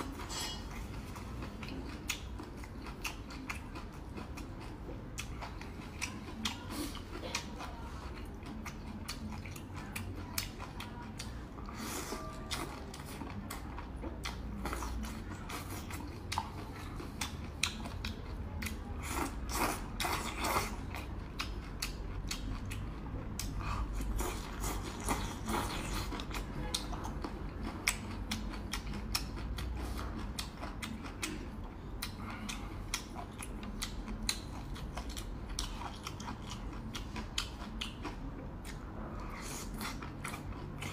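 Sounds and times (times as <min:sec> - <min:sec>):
chewing: 0:00.0 - 0:40.9.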